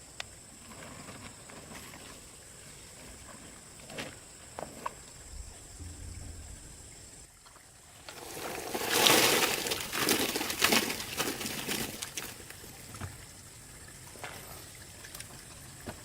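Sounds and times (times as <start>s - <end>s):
water splashing and sloshing: 1.0s - 16.0s.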